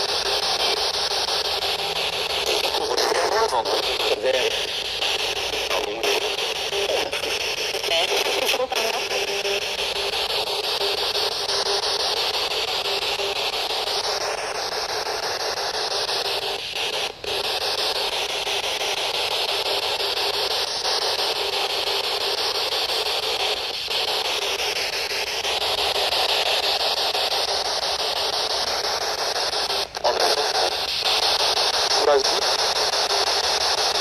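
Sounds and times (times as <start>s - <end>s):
radio static hiss: 0.0s - 34.0s.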